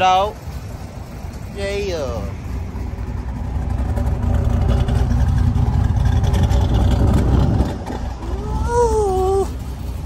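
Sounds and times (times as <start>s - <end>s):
car exhaust rumbling: 0.0s - 10.0s.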